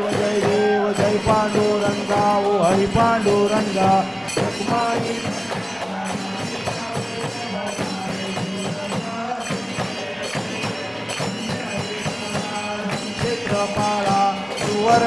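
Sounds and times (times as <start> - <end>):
rhythmic hand percussion: 0.0 - 15.0.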